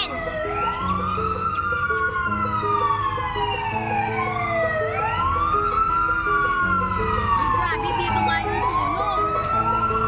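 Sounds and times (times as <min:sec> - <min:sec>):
background music: 0:00.0 - 0:10.0
emergency sirens wailing: 0:00.0 - 0:10.0.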